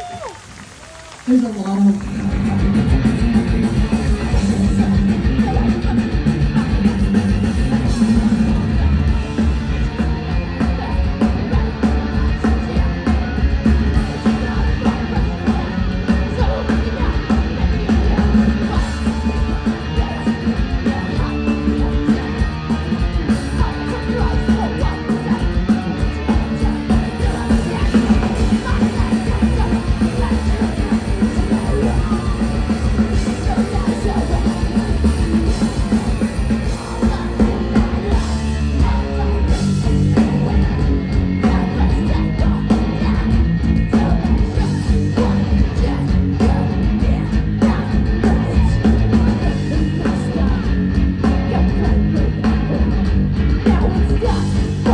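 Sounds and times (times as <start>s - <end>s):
bass: 0.0s - 54.9s
distorted guitars: 0.0s - 54.9s
drums: 0.0s - 54.9s
yelled vocals: 0.0s - 54.9s.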